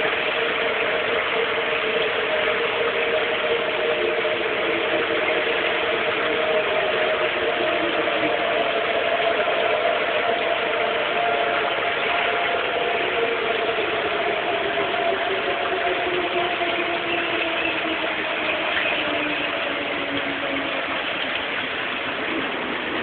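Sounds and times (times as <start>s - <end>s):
steady hiss: 0.0s - 23.0s
tornado warning siren winding down: 0.0s - 23.0s.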